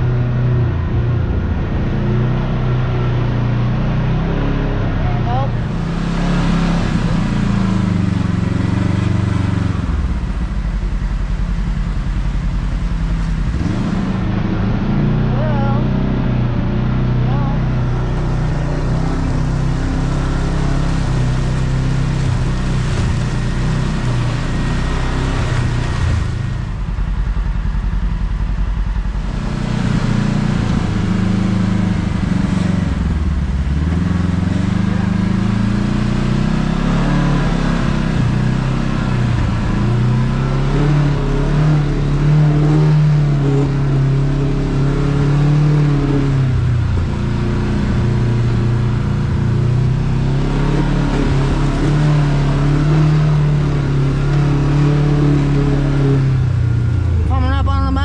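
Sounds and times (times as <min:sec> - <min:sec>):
engine revving under varying throttle: 0:00.0 - 0:58.0.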